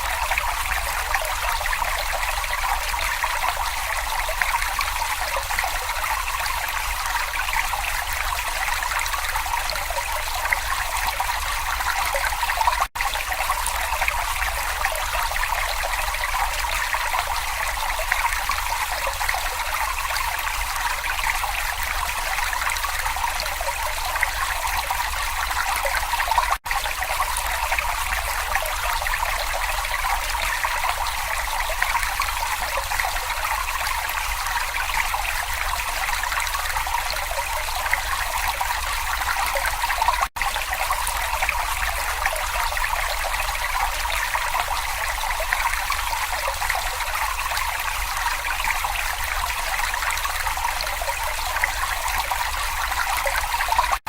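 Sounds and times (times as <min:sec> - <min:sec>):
brook water trickling over stones: 0:00.0 - 0:54.0.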